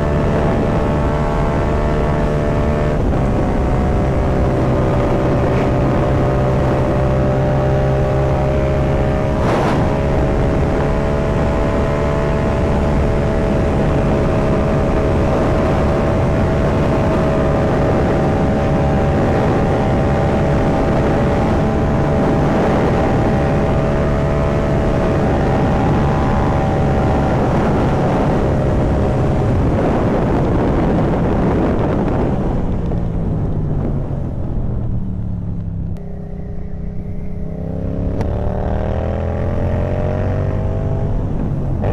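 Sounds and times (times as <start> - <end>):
motorcycle engine cruising: 0.0 - 41.9
wind and road noise: 0.0 - 41.9.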